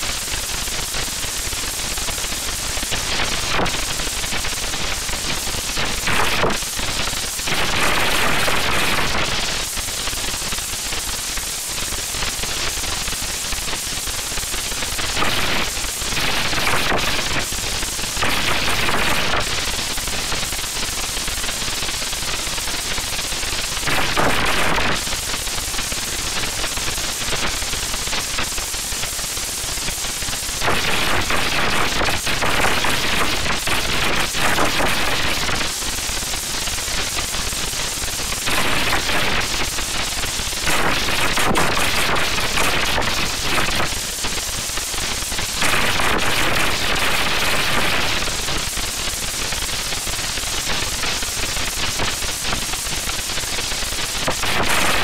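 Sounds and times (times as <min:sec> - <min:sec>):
harsh crackling noise: 0:00.0 - 0:55.0.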